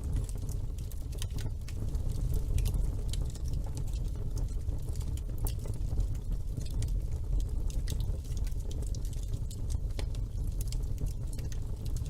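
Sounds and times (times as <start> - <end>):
fireplace flames rumbling: 0.0 - 12.0
logs crackling and popping: 0.0 - 12.0.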